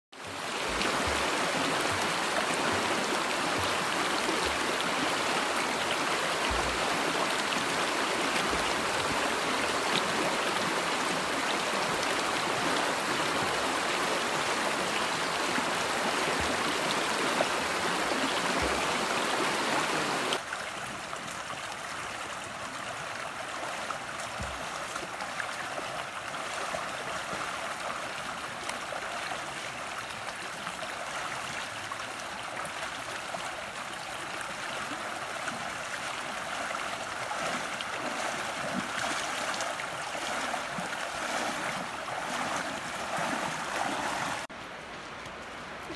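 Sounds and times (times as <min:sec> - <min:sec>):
stream running over stones: 0:00.2 - 0:45.9.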